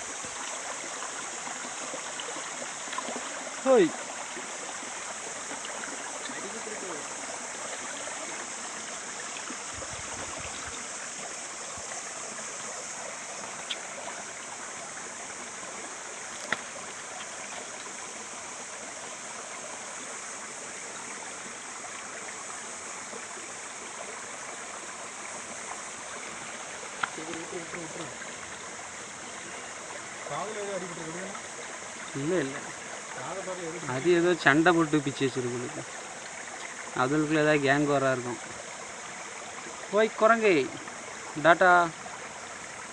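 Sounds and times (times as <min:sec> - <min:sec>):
stream flowing over rocks: 0:00.0 - 0:42.9.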